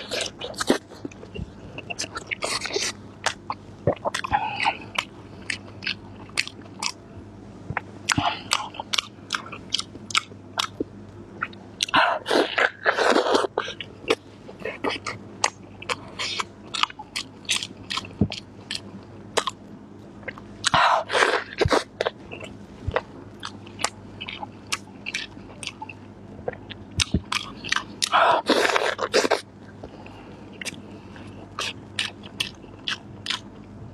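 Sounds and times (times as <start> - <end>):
crunchy eating: 0.0 - 33.9.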